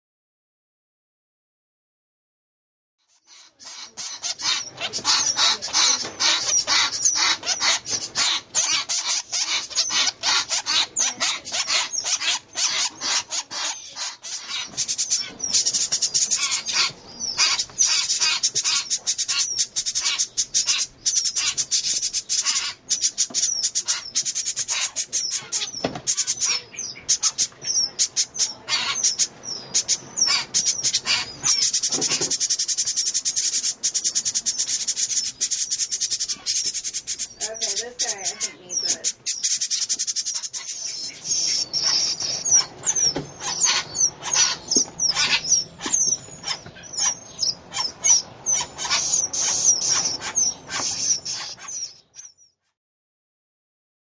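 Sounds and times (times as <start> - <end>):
fledglings begging chirps: 3.1 - 52.6.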